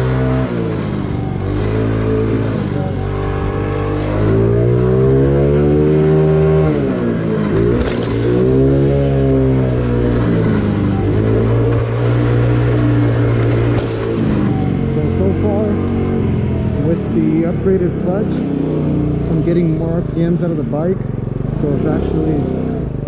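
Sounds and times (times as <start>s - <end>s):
scooter engine revving: 0.0s - 23.0s.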